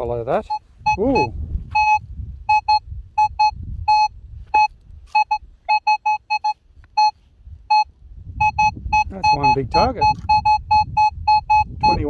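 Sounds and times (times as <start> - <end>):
metal detector short beeps: 0.4 - 12.0.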